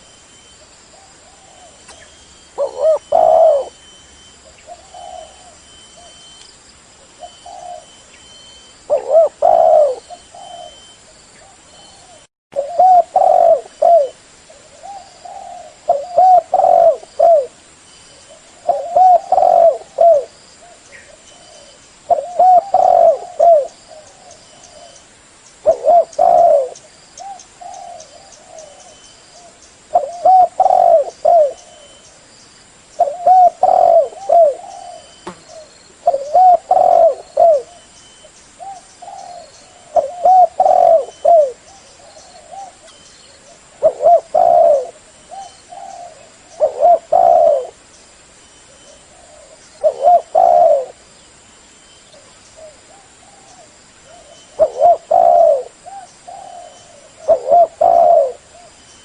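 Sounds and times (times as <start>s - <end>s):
dove cooing: 0.9s - 6.2s, 7.0s - 8.1s, 8.9s - 17.6s, 18.2s - 25.0s, 25.6s - 32.1s, 33.0s - 37.9s, 38.6s - 47.8s, 48.7s - 51.0s, 52.1s - 58.8s.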